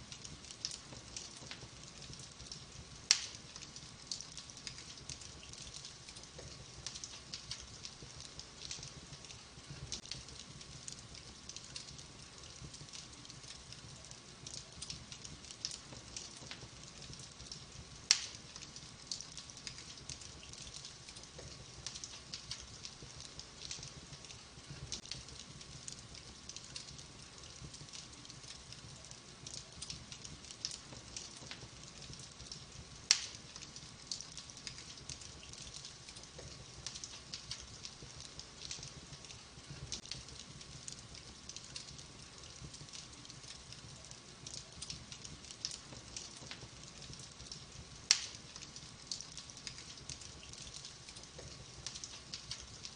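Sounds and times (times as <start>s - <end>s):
wood fire crackling: 0.0s - 52.9s
loud fire pops: 0.2s - 13.4s, 14.5s - 27.0s, 29.5s - 41.0s, 44.5s - 52.8s.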